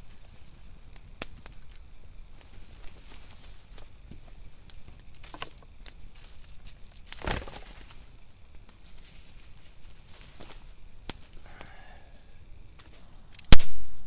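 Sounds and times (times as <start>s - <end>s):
twigs cracking: 0.0s - 12.0s
rustling dry leaves: 0.0s - 13.9s.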